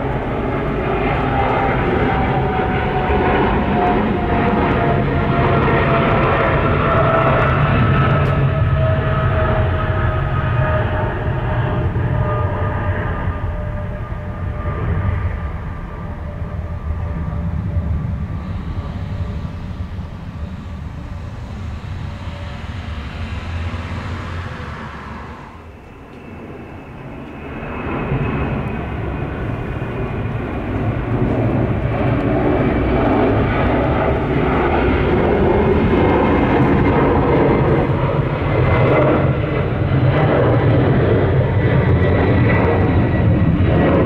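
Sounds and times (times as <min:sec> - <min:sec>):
jet engine noise climbing past: 0:00.0 - 0:44.0
jet engine rumble: 0:00.0 - 0:44.0.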